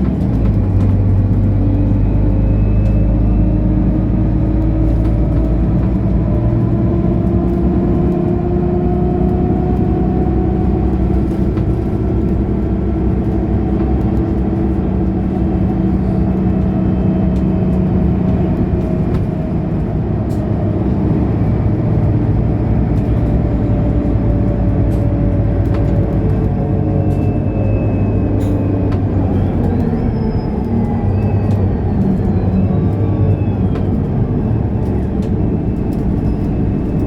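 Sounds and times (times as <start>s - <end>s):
bus engine droning: 0.0s - 37.0s.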